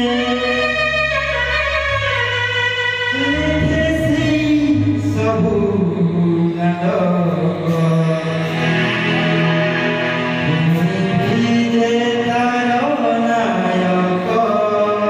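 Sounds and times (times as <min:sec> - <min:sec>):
electronic keyboard chords: 0:00.0 - 0:15.0
man singing long notes: 0:00.0 - 0:15.0.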